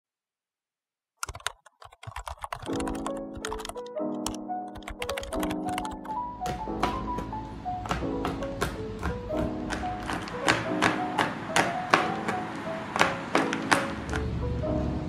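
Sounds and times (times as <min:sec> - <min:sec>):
keyboard typing clicks: 0:01.2 - 0:14.3
background music: 0:02.7 - 0:15.0.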